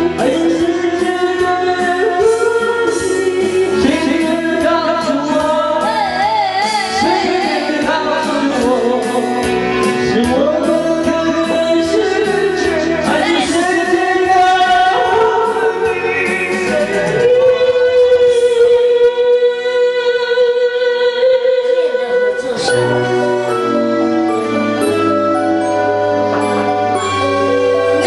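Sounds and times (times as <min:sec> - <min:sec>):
person singing into a microphone: 0:00.0 - 0:24.4
karaoke backing track: 0:00.0 - 0:28.0.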